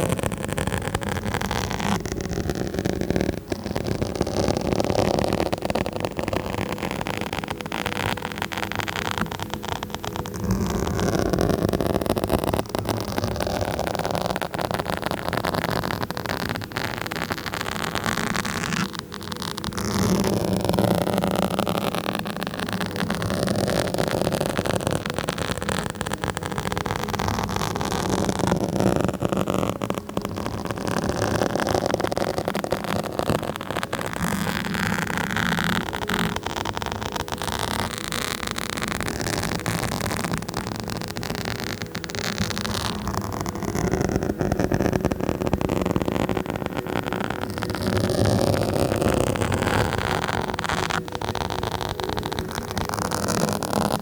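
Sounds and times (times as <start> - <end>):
microphone being scratched: 0.0 - 54.0.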